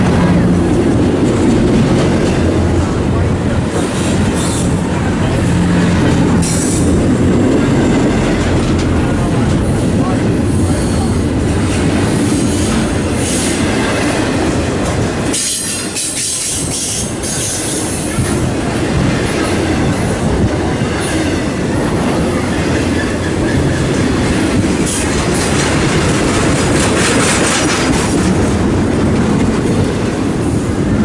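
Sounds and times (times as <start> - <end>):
freight train wheels on rails: 0.0 - 31.0.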